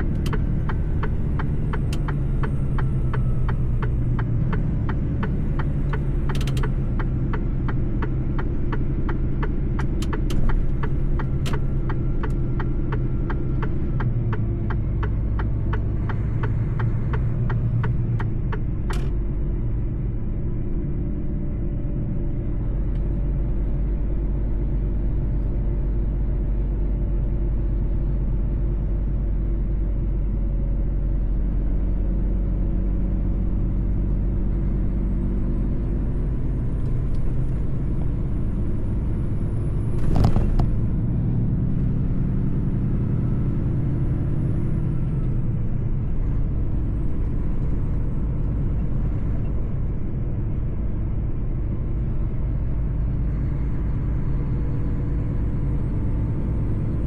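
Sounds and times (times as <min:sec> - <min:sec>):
truck diesel engine driving: 0:00.0 - 0:57.0.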